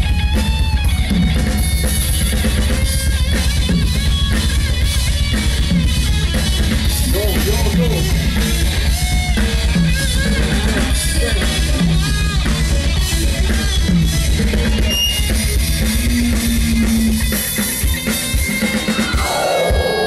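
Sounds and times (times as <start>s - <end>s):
death metal band playing: 0.0s - 20.0s
fast drum beats: 0.0s - 20.0s.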